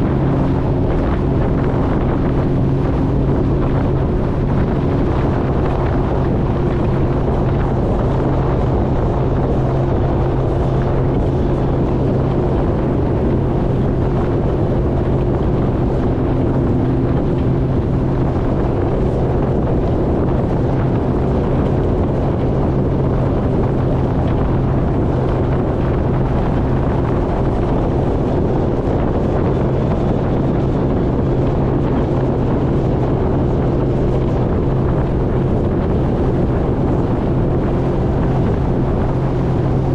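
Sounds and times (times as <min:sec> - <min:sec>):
jet ski engine droning: 0:00.0 - 0:39.9
wind buffeting microphone: 0:00.0 - 0:39.9.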